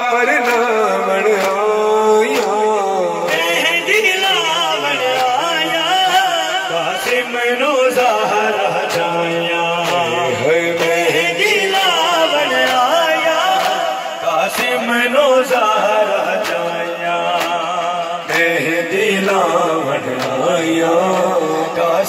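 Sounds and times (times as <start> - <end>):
crowd chanting along: 0.0 - 22.0
man chanting through loudspeaker: 0.0 - 22.0.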